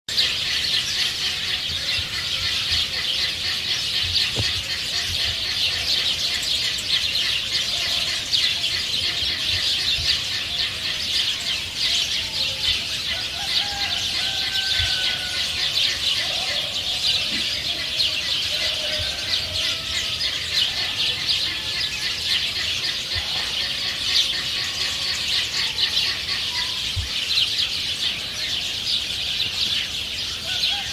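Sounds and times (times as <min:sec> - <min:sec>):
rapid high-pitched chirping chorus: 0:00.1 - 0:30.9.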